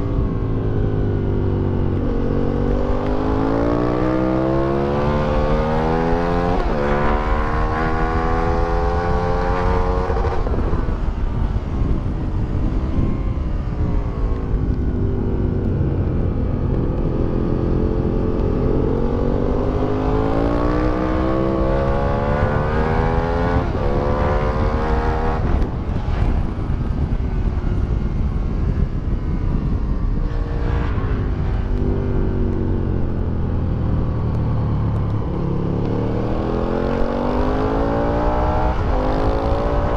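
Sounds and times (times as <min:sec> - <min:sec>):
low rushing noise: 0:00.0 - 0:39.9
motorcycle engine accelerating: 0:00.0 - 0:39.9.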